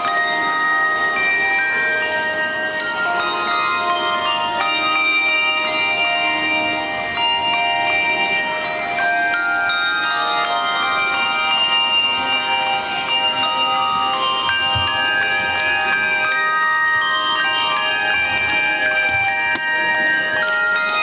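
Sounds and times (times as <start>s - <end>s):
handbell choir playing: 0.0s - 21.0s.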